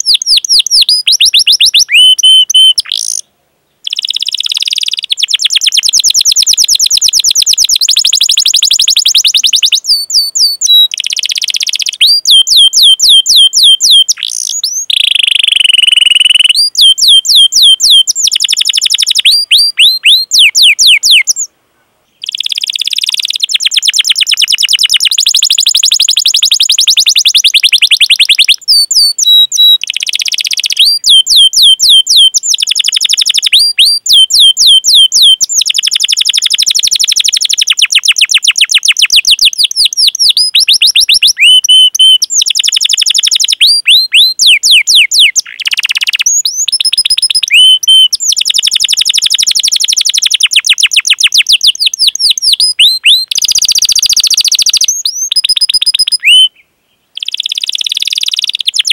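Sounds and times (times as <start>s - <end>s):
canary singing: 0.0s - 21.5s, 22.2s - 56.6s, 57.2s - 58.9s.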